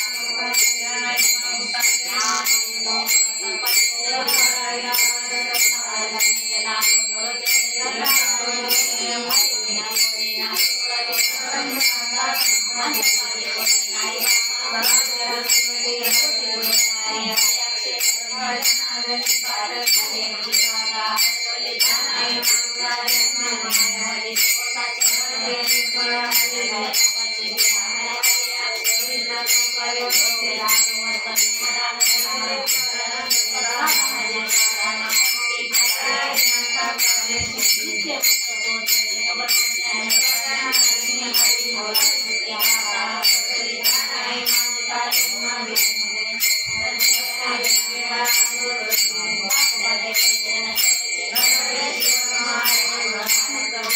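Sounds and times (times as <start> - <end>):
hand cymbals struck in steady beat: 0.0 - 53.9
people singing devotional song: 0.0 - 53.9.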